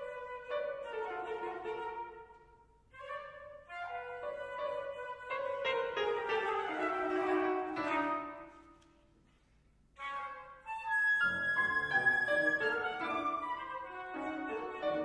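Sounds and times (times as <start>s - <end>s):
flute: 0.0s - 8.9s, 10.0s - 15.0s
piano: 0.0s - 15.0s.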